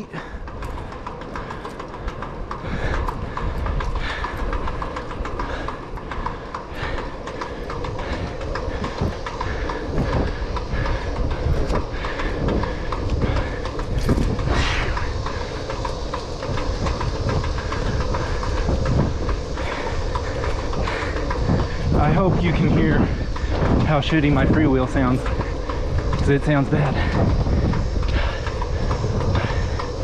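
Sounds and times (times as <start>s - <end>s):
bicycle freewheel clicking: 0.0s - 30.0s
wind rush on microphone: 0.0s - 30.0s.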